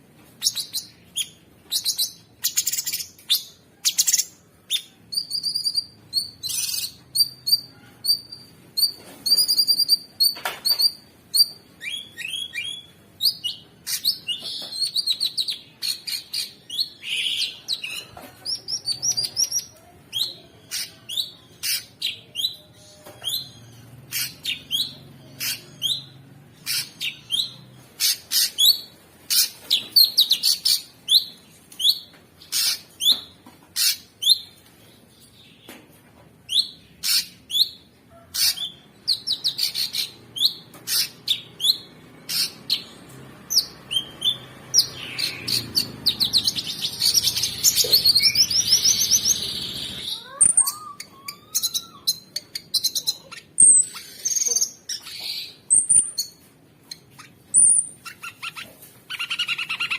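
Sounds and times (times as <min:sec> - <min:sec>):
songbird chirping: 0:00.4 - 0:59.9.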